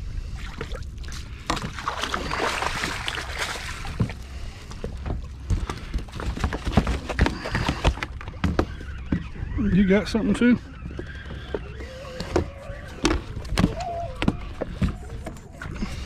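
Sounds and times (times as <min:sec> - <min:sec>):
water splashing against boat: 0:00.1 - 0:16.0.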